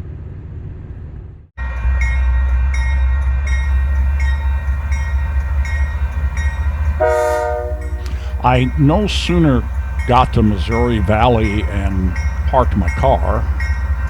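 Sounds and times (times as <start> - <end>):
freight train rumbling past: 0.0 - 14.0
steady tones: 1.6 - 14.0
train wheels clicking: 1.8 - 14.0.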